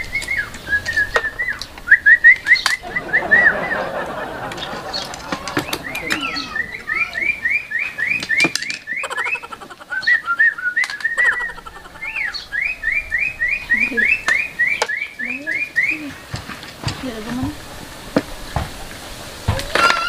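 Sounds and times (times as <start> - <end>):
bird whistling calls: 0.0 - 16.4
bird chirps and clicks: 0.0 - 17.4.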